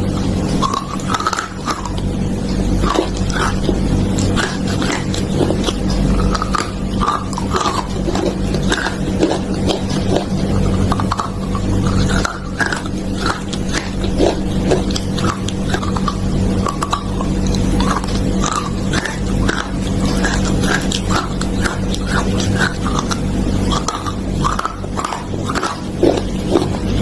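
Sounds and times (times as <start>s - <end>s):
crunching and chewing: 0.0s - 27.0s
steady low hum: 0.0s - 27.0s.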